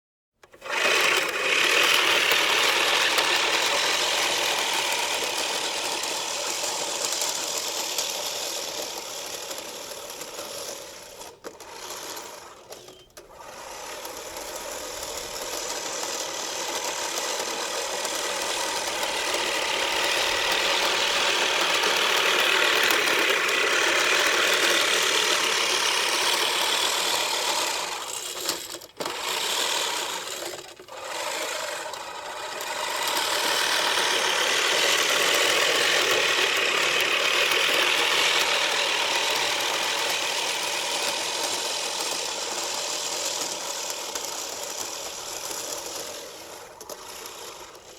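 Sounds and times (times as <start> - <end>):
lawn mower running: 0.4 - 47.9.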